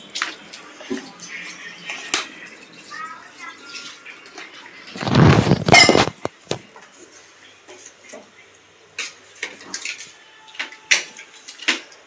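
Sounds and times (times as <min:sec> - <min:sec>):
pots and utensils clattering: 0:00.0 - 0:02.5, 0:03.8 - 0:08.3, 0:09.0 - 0:12.0.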